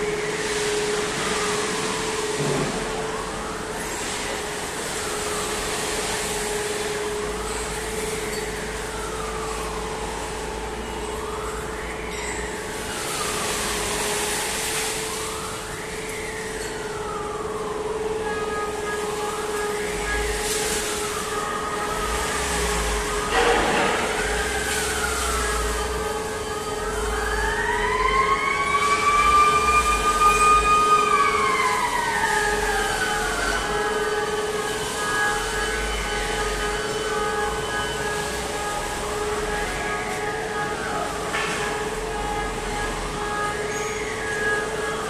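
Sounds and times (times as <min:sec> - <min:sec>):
electric motors whining: 0:00.0 - 0:45.0
steady machine hum: 0:00.0 - 0:45.0.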